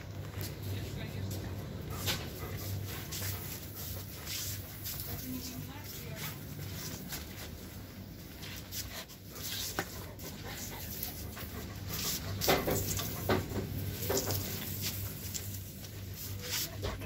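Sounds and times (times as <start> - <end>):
dog panting: 0.5 - 7.5, 8.3 - 17.0.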